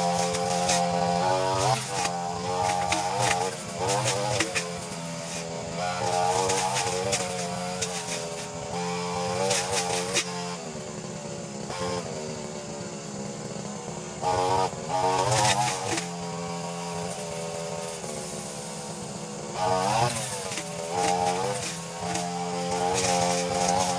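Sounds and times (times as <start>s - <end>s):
brushcutter engine revving: 0.0s - 23.9s.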